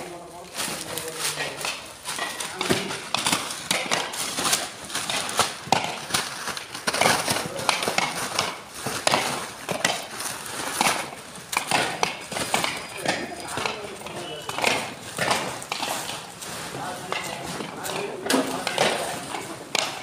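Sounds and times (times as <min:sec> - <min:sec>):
coconuts knocking together: 0:00.0 - 0:20.0.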